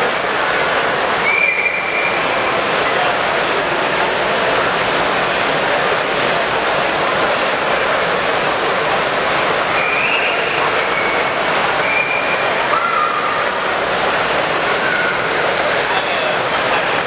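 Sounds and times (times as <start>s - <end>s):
crowd and machinery hubbub: 0.0s - 17.0s.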